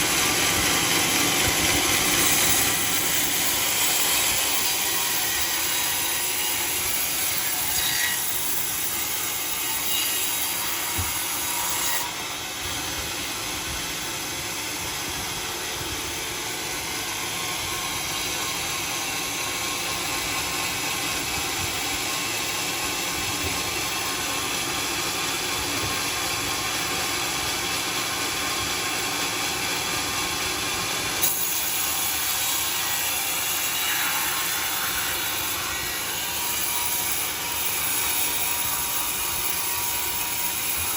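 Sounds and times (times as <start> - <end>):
saw blade cutting log: 0.0 - 30.2, 30.8 - 40.9.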